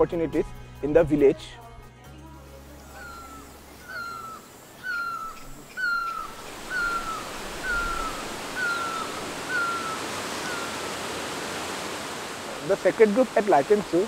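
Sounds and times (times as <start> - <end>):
running water rushing: 2.6 - 14.0.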